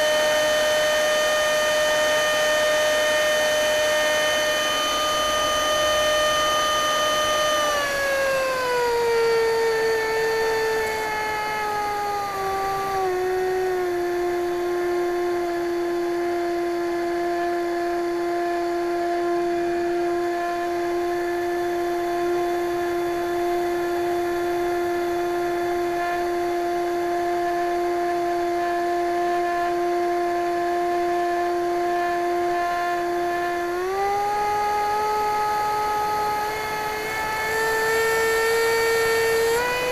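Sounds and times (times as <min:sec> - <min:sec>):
electric ducted fan whining: 0:00.0 - 0:39.9.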